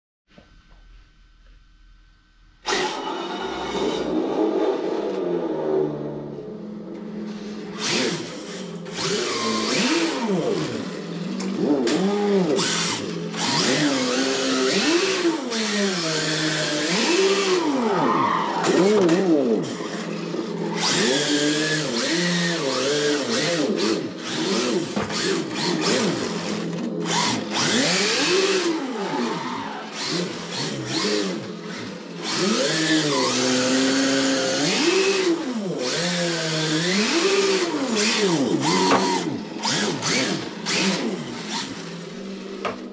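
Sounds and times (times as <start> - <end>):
electronic engine sound revving: 1.0 - 42.6
electric motor whir: 6.9 - 42.9.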